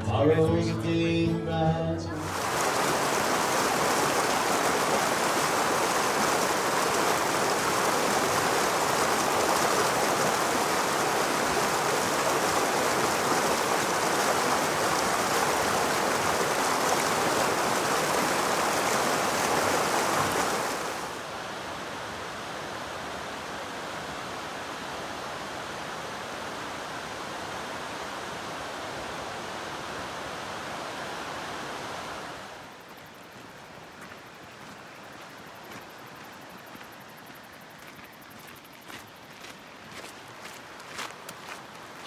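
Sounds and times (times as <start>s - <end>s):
creek rushing over stones: 2.2s - 32.7s, 33.4s - 42.0s.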